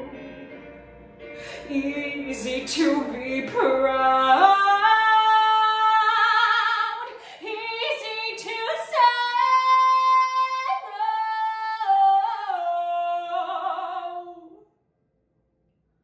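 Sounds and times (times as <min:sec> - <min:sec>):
woman singing unaccompanied: 0:01.6 - 0:14.6.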